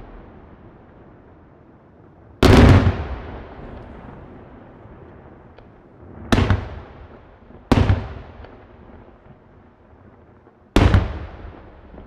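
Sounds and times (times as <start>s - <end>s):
fireworks bursting with echo: 0.0s - 1.4s, 2.4s - 12.0s.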